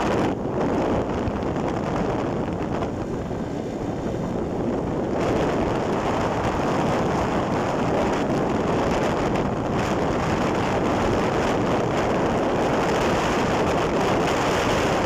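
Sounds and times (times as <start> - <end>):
motorcycle road noise: 0.0 - 15.0
wind rushing over microphone: 0.0 - 15.0.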